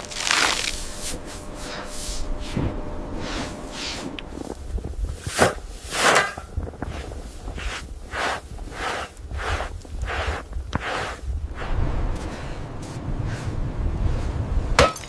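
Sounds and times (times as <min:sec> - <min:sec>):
footsteps crunching through snow: 0:00.0 - 0:13.4
low rumble: 0:00.0 - 0:15.0.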